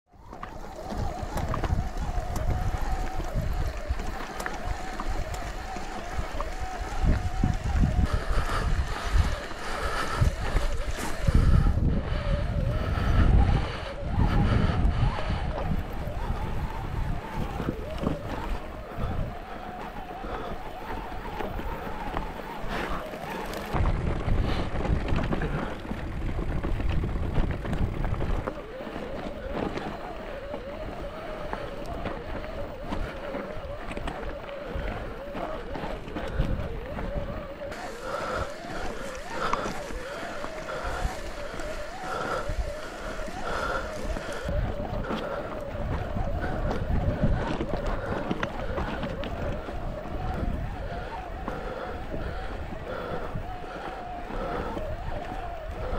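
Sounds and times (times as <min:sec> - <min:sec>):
mountain bike whirring: 0:00.1 - 0:55.9
wavering hum: 0:00.1 - 0:55.9
wind buffeting microphone: 0:00.1 - 0:55.9.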